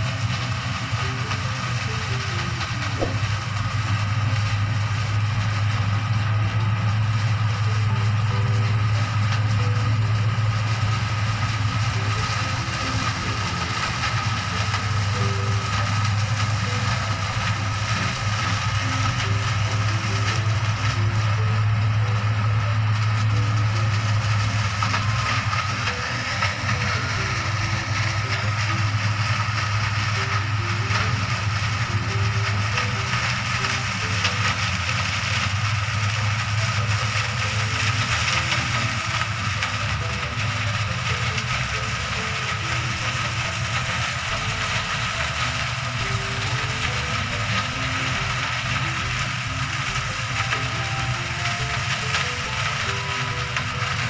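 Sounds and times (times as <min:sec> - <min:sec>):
low drone: 0:00.0 - 0:54.0.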